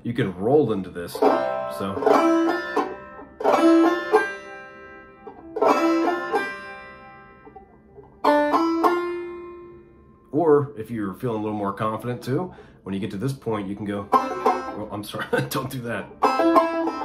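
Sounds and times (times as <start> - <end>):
banjo notes and chords: 0.0 - 17.0.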